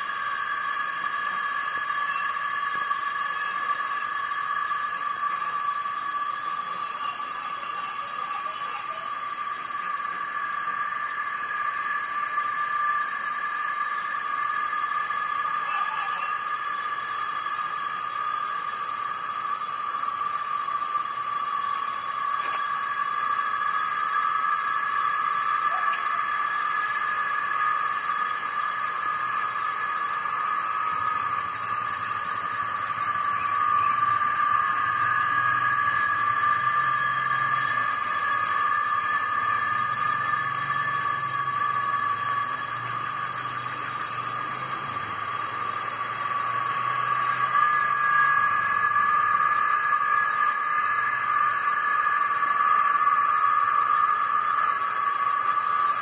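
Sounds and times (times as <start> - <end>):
cicadas droning: 0.0 - 56.0.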